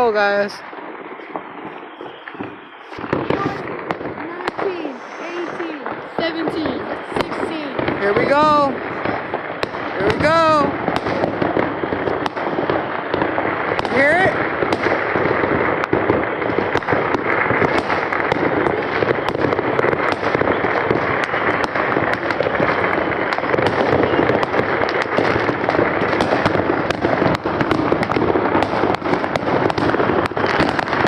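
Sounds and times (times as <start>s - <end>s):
fireworks and firecrackers popping: 0.0s - 31.0s.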